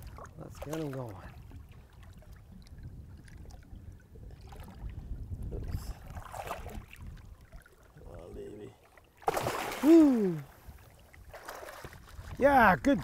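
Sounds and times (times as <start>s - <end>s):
water splashing: 0.0s - 12.4s.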